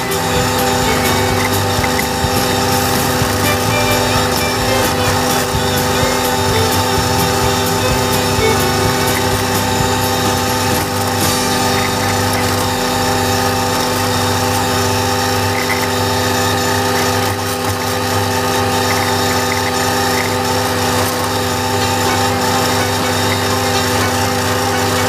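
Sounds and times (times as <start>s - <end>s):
flail mower whine: 0.0s - 25.0s
tractor diesel engine under load: 0.0s - 25.0s.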